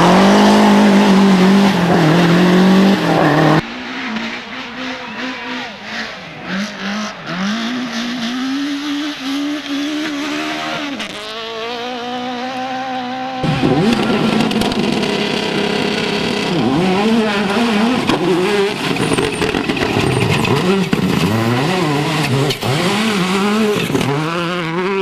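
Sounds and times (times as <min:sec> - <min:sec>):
engine revs swinging: 0:00.0 - 0:25.0
racing car engine at full throttle: 0:00.0 - 0:25.0.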